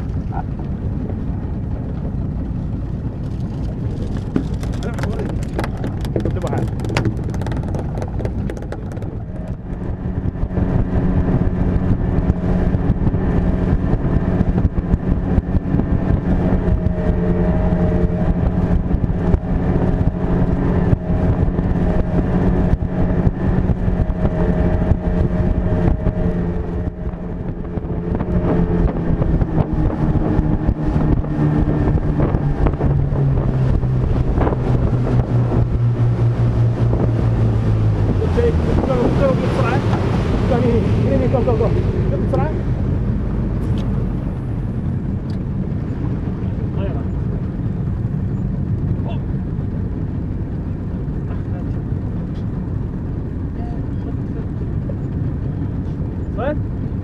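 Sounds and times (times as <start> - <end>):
boat engine running: 0.0 - 57.0
wind buffeting microphone: 0.0 - 57.0.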